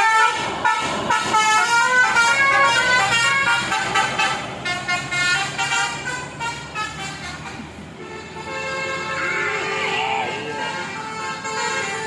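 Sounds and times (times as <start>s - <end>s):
multi-tone vehicle air horn tune: 0.0s - 12.0s.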